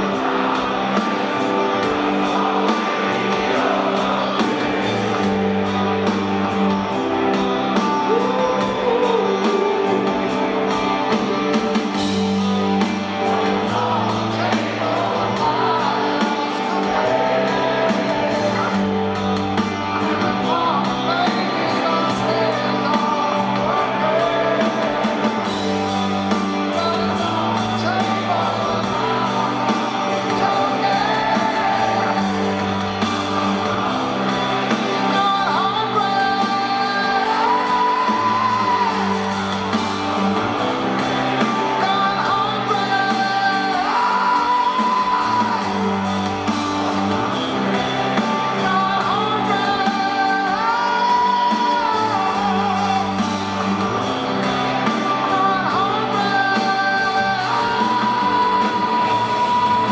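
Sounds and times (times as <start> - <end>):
live rock band: 0.0 - 59.9
man singing: 7.4 - 12.0, 12.8 - 59.9.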